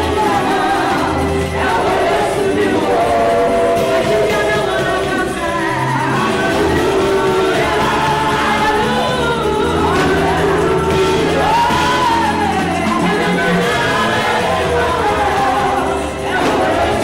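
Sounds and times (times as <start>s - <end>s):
choir singing gospel music: 0.0s - 17.0s
instrumental backing: 0.0s - 17.0s.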